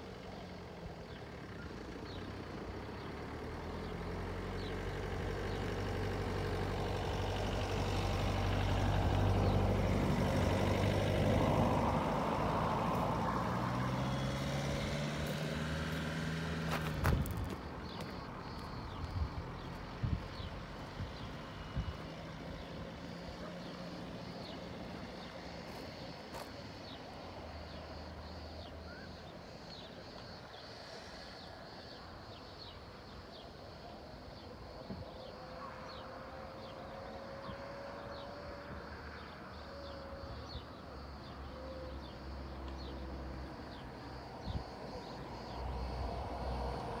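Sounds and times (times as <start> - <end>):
distant traffic: 0.0 - 47.0
wind: 0.0 - 47.0.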